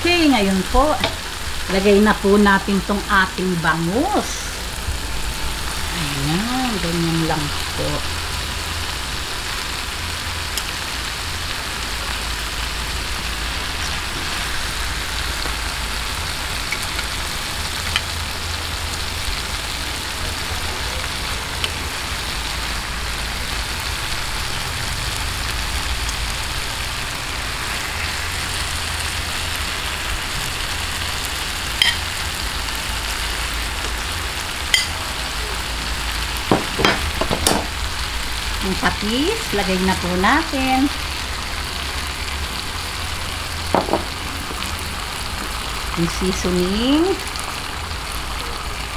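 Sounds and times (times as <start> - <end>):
food sizzling in a frying pan: 0.0 - 48.9
low steady hum: 0.0 - 48.9.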